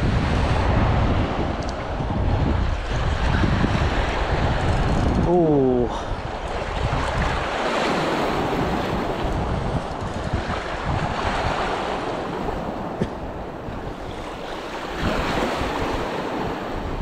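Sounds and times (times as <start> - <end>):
sea washing against rocks: 0.0 - 17.0
wind buffeting microphone: 0.0 - 17.0.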